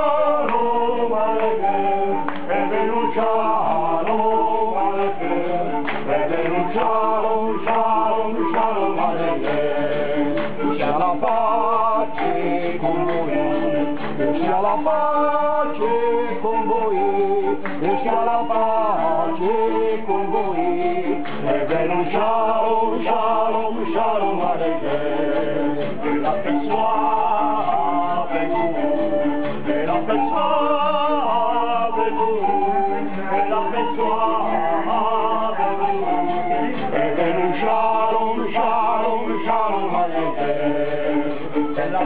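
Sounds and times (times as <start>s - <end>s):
bamboo pan flutes playing: 0.0s - 42.0s
men singing: 0.0s - 42.0s.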